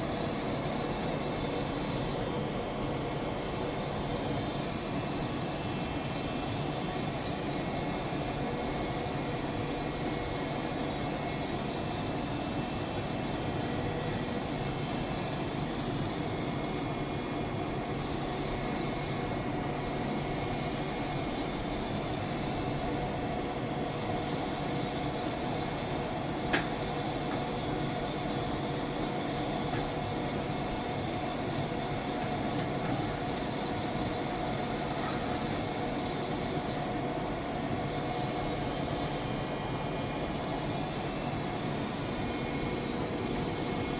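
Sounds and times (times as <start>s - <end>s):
machine humming with held tones: 0.0s - 43.9s.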